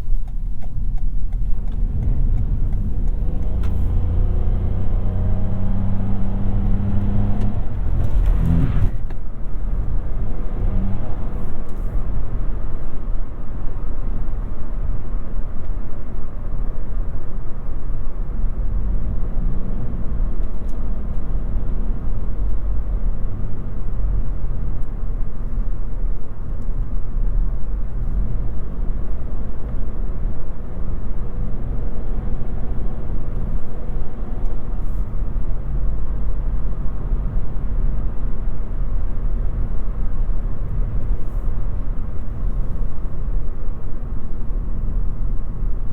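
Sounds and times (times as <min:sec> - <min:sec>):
car drivetrain drone: 0:00.0 - 0:45.9
road and tyre noise: 0:00.0 - 0:45.9.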